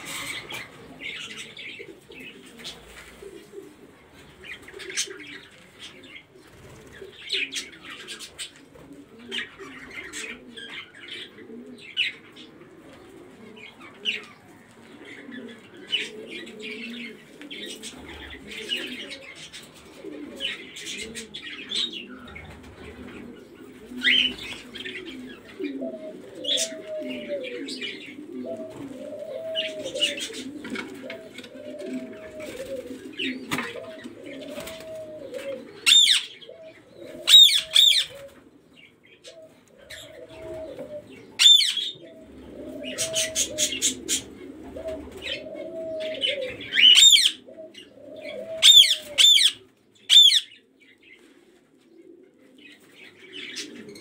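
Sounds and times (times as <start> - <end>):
pigeons and doves cooing: 0.0 - 54.0.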